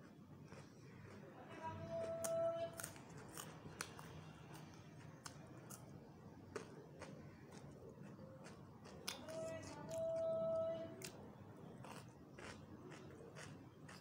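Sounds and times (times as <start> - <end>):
chewing crispy chips: 0.0 - 14.0.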